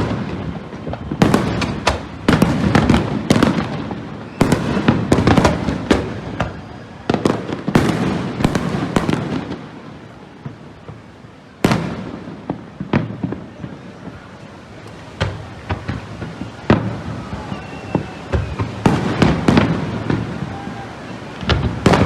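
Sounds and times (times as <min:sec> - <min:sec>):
fireworks pops: 0:00.0 - 0:09.7, 0:10.4 - 0:20.8, 0:21.4 - 0:22.0
fireworks bangs and crackle: 0:00.0 - 0:22.0.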